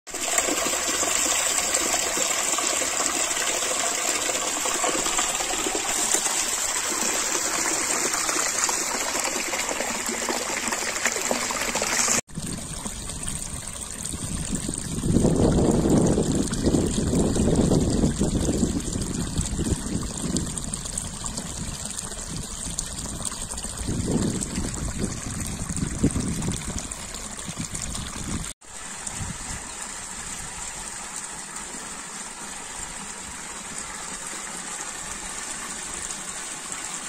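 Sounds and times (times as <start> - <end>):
water trickling over rock: 0.1 - 37.0.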